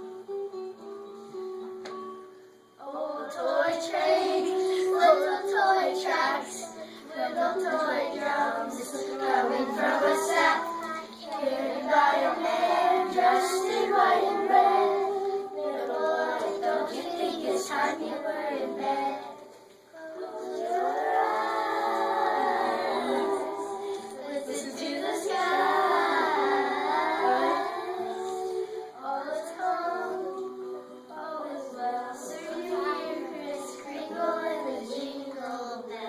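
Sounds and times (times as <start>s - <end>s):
children singing together: 2.8s - 36.0s.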